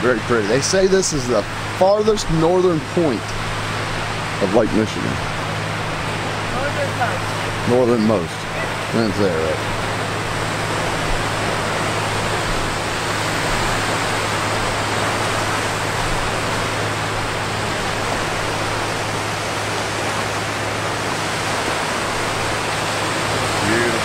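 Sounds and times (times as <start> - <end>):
small waves washing onto sand: 0.0 - 24.0.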